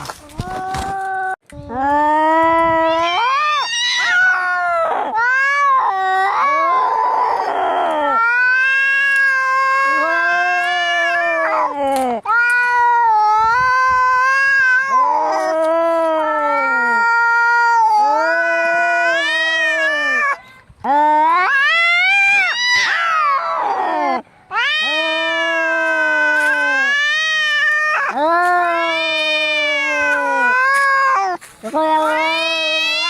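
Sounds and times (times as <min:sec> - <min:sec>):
cats yowling: 0:02.6 - 0:20.4, 0:21.0 - 0:33.0.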